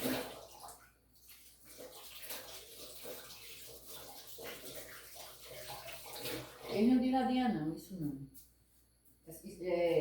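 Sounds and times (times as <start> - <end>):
faint running water: 0.0 - 10.0.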